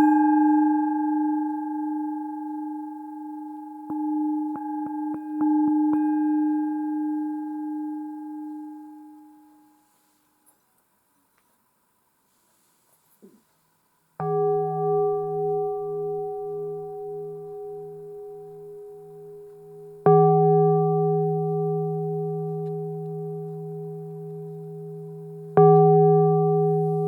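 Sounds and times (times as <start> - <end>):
singing bowl ringing: 0.0 - 10.2, 14.2 - 27.0.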